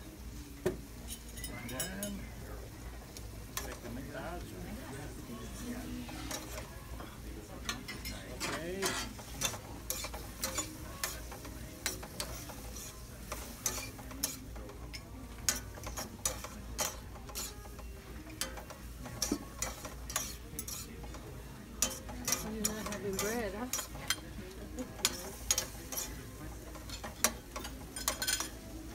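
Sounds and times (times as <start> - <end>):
pan sizzling: 0.0 - 28.9
metal utensils clinking on skillet: 1.0 - 2.3, 3.4 - 28.9.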